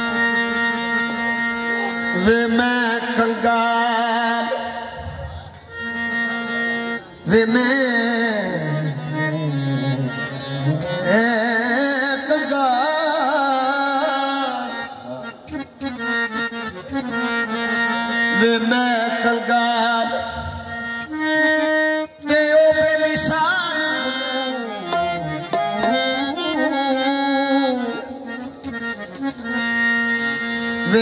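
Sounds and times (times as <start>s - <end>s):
harmoniums playing melody: 0.0s - 31.0s
tabla: 0.0s - 31.0s.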